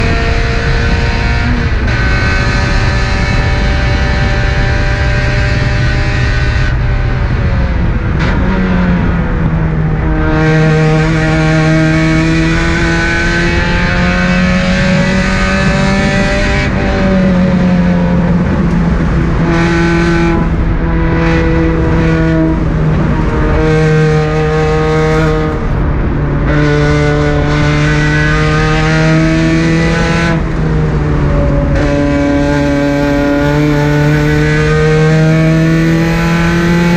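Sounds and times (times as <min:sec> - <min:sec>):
race car engine accelerating: 0:00.0 - 0:36.9
wind and road noise: 0:00.0 - 0:36.9.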